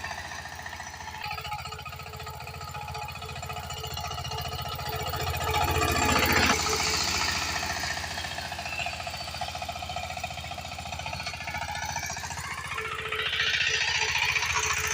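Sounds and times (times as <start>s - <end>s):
diesel engine knocking: 0.0s - 14.9s.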